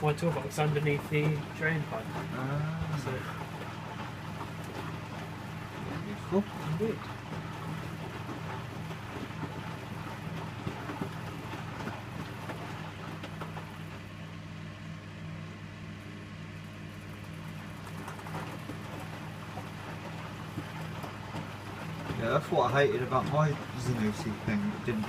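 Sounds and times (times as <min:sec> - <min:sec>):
washing machine humming: 0:00.0 - 0:25.0.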